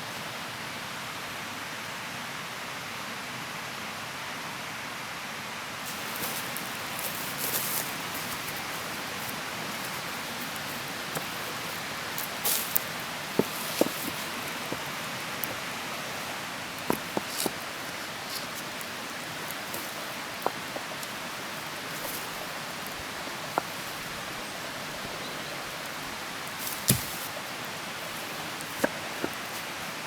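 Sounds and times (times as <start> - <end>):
steady hiss: 5.7 - 30.0.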